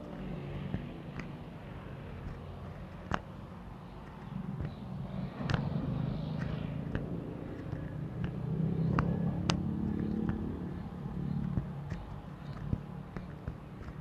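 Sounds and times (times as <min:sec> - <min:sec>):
vehicle engine passing by: 0:00.0 - 0:14.0.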